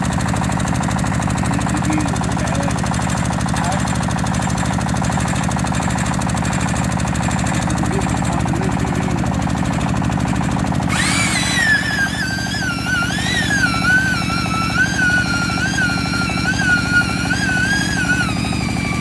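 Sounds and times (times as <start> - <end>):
small engine chugging: 0.0 - 19.0.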